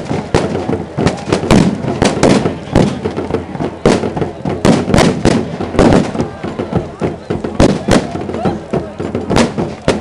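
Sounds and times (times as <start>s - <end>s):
firecrackers banging: 0.0s - 10.0s.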